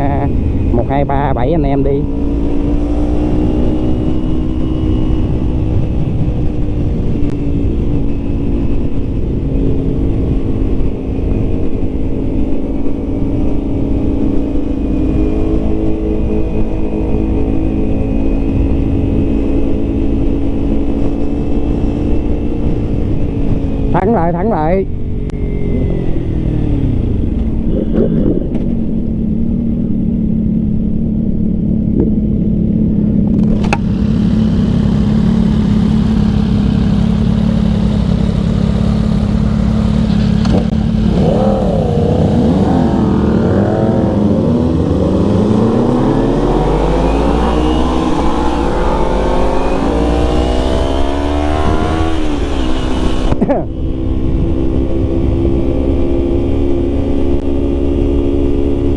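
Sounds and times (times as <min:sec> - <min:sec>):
motorcycle engine: 0:00.0 - 0:58.9
wind noise: 0:00.0 - 0:58.9.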